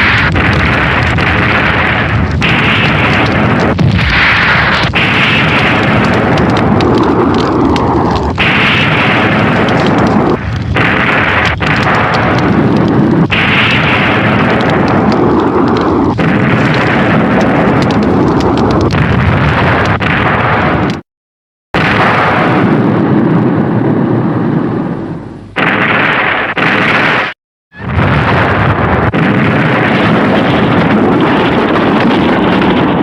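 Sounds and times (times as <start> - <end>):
hissing explosion blasts: 0.0 - 21.0, 21.8 - 33.0.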